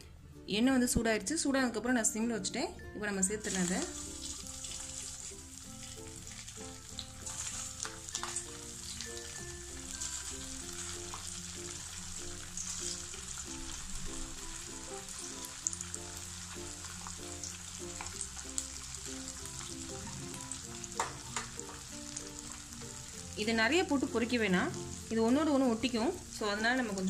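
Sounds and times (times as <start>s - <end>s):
soft background music: 0.0s - 27.0s
food deep-frying in oil: 3.3s - 27.0s.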